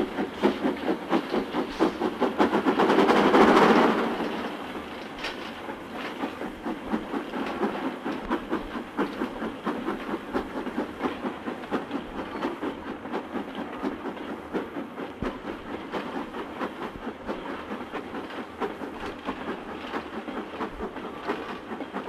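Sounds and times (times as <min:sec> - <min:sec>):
continuous rushing noise: 0:00.0 - 0:22.0
steam train beats: 0:00.0 - 0:22.0.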